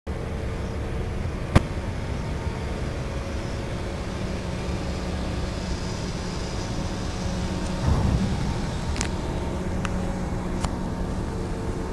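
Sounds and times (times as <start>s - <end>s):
ship engine rumble: 0.1s - 11.9s.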